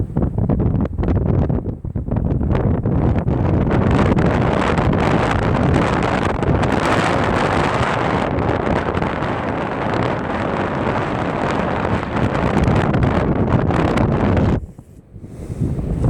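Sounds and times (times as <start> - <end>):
strong wind blowing over microphone: 0.0 - 16.0.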